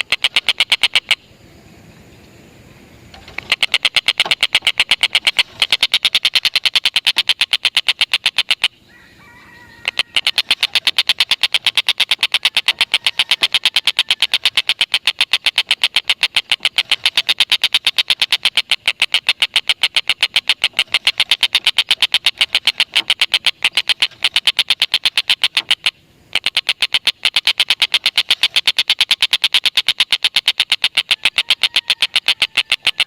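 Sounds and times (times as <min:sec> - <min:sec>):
kingfisher chattering: 0:00.0 - 0:01.2, 0:03.2 - 0:08.7, 0:09.8 - 0:31.1.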